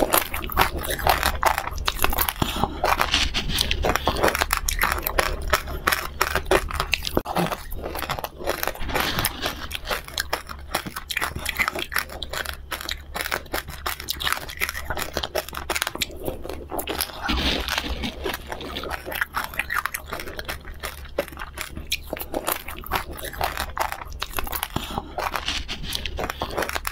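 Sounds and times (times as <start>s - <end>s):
person crunching hard candy: 0.0s - 26.9s.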